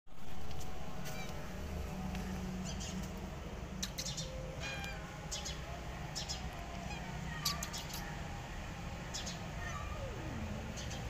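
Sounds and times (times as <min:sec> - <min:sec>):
steady low rumble: 0:00.1 - 0:11.0.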